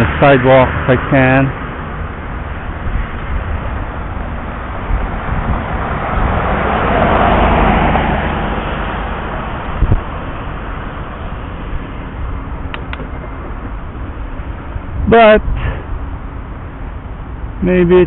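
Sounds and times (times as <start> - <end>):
street traffic: 0.0 - 18.0
vehicle passing: 0.0 - 18.0
wind rumbling on microphone: 0.0 - 18.0.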